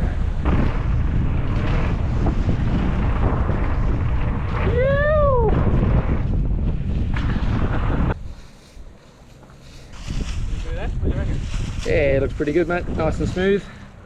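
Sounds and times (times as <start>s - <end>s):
wind buffeting microphone: 0.0s - 9.0s, 9.6s - 13.8s.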